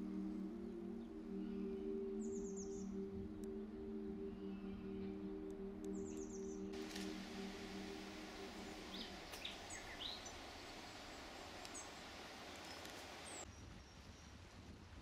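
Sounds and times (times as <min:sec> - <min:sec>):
background music: 0:00.0 - 0:12.2
steady outdoor hiss: 0:00.0 - 0:15.0
bird chirps: 0:00.1 - 0:14.0.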